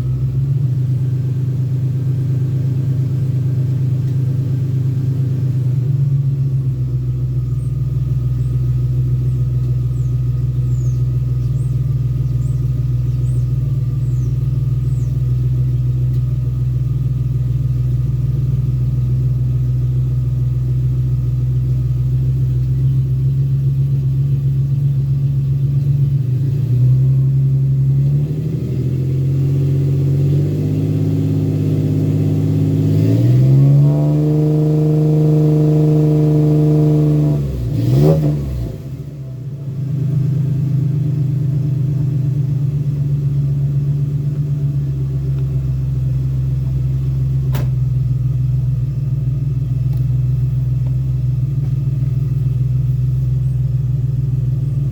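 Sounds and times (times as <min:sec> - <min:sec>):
truck engine idling and revving: 0:00.0 - 0:54.9.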